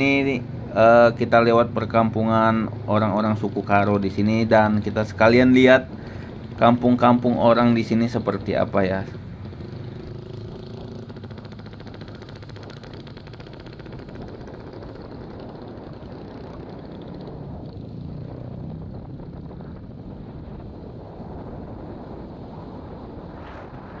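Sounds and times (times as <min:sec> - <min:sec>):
road and wind noise: 0:00.0 - 0:24.0
vehicle engine running: 0:00.0 - 0:24.0.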